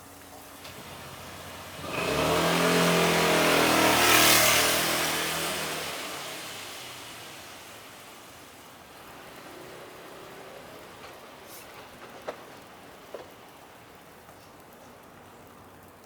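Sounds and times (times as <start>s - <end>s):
tyre hiss on snow: 0.0s - 15.2s
car engine passing: 0.6s - 14.2s.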